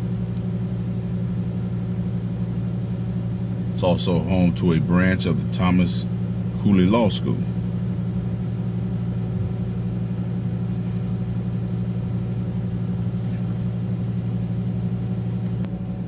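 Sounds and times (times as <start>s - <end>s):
bus engine and road noise drone: 0.0s - 16.0s.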